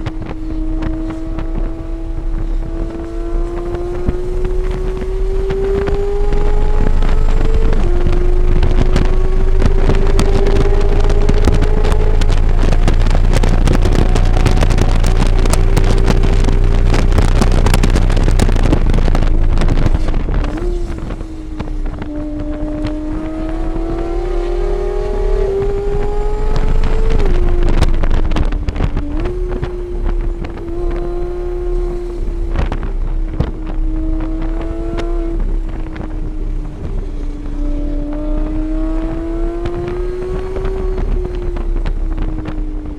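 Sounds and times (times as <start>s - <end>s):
race car engine at speed: 0.0s - 42.9s
wind rush on microphone: 0.0s - 42.9s.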